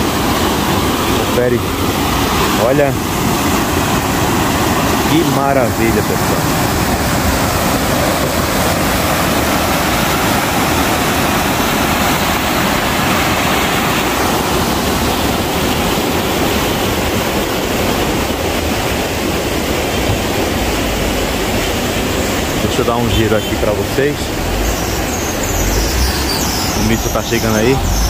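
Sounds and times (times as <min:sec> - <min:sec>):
river rushing in flood: 0:00.0 - 0:28.0.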